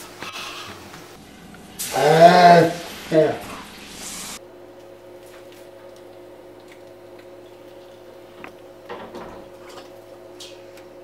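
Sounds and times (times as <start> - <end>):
steady low hum: 1.0 - 11.0.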